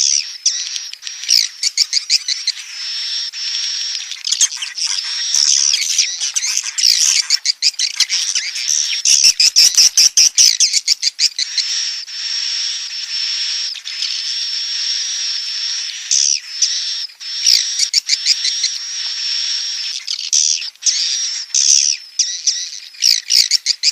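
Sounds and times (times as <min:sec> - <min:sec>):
nestlings buzzing chatter: 0:00.0 - 0:23.9
nestlings chirping: 0:00.0 - 0:23.9.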